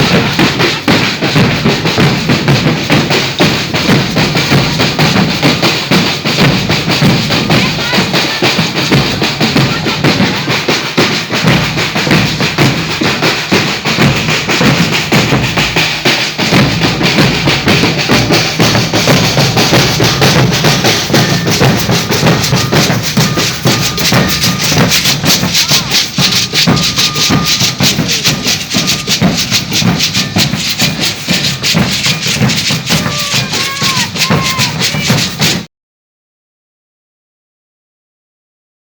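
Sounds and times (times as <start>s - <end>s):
bass drums: 0.0s - 35.7s
shakers: 0.0s - 35.7s
snare drums: 0.0s - 35.7s.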